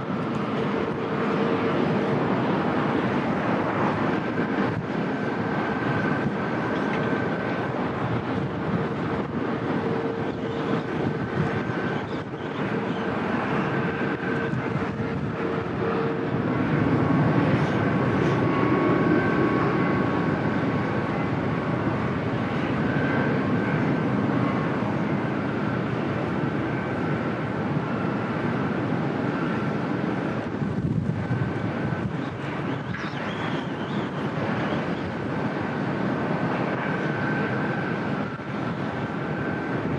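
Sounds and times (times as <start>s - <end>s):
faint engine whine: 0.0s - 39.9s
jet engine rushing noise: 0.0s - 39.9s.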